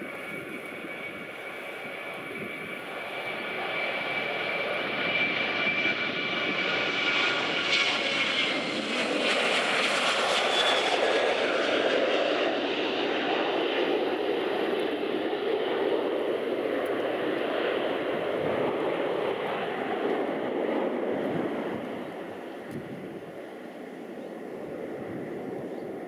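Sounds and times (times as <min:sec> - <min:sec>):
jet engines roaring with fan whine: 0:00.0 - 0:26.0.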